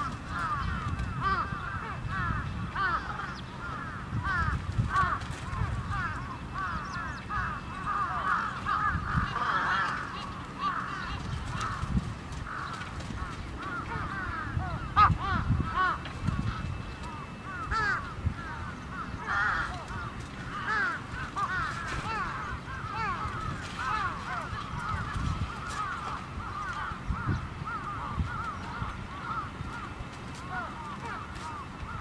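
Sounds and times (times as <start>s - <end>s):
crows cawing: 0.0s - 32.0s.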